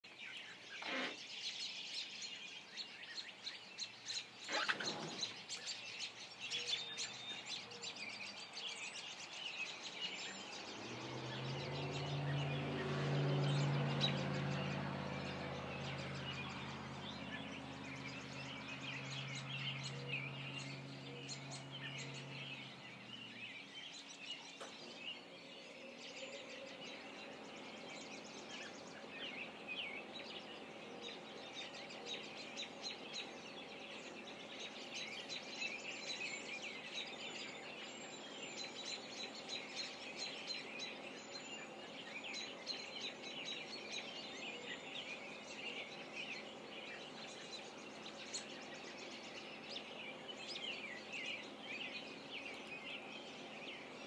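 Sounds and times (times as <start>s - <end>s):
songbirds chirping and singing: 0.0s - 54.0s
low engine-like hum: 2.0s - 54.0s.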